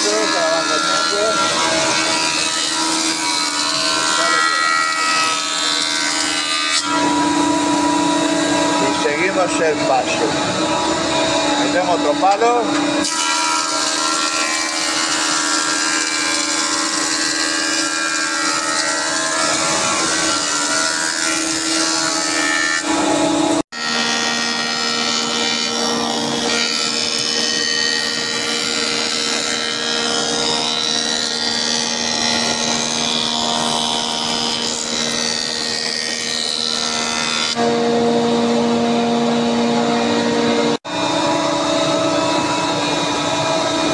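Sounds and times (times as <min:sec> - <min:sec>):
cutters planing wood: 0:00.0 - 0:43.9
planer humming: 0:00.0 - 0:43.9.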